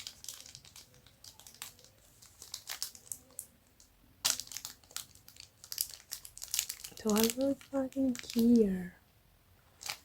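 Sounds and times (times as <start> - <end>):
snack wrapper crinkling: 0.0 - 8.8, 9.7 - 10.0.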